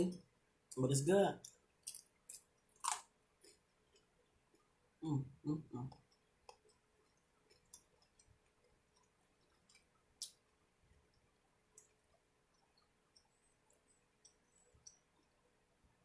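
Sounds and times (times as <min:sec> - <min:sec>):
faint eating clicks: 0:00.1 - 0:04.8, 0:05.8 - 0:16.0.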